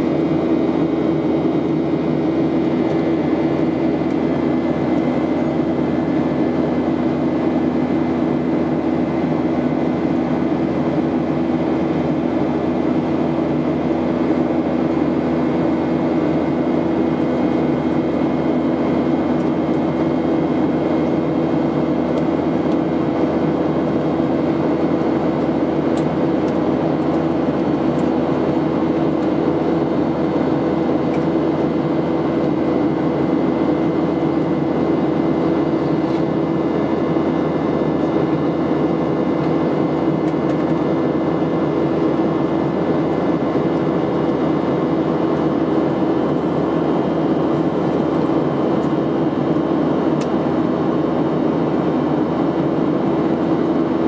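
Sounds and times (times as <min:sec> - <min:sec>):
jet airliner cabin drone: 0:00.0 - 0:54.0.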